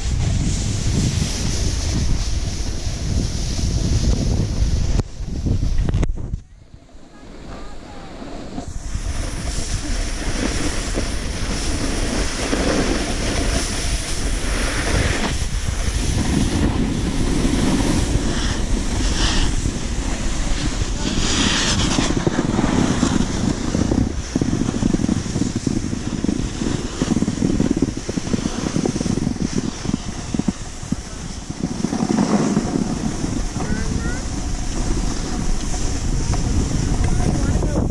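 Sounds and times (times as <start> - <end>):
ski turn swishes: 0.0 - 37.9
skis sliding over packed snow: 0.0 - 37.9
wind buffeting microphone: 0.0 - 37.9.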